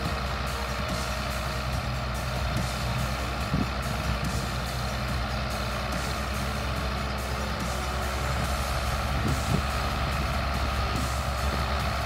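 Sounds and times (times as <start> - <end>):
combine harvester engine drone: 0.0 - 12.0
mechanical whine: 0.0 - 12.0
tractor engine running: 0.0 - 12.0.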